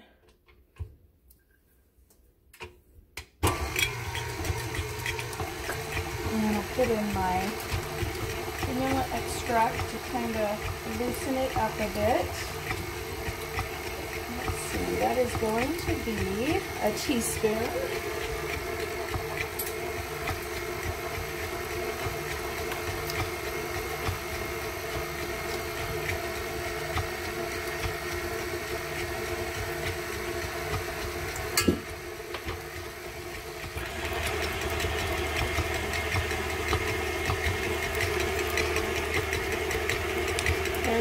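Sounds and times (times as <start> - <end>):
stand mixer whisking: 3.4 - 41.0.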